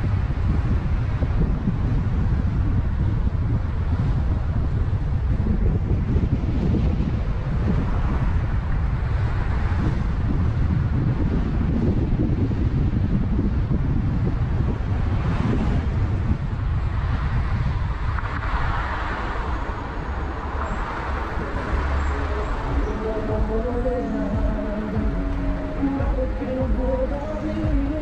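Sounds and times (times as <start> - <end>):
car road and engine rumble: 0.0 - 28.0
wind buffeting microphone: 0.0 - 28.0.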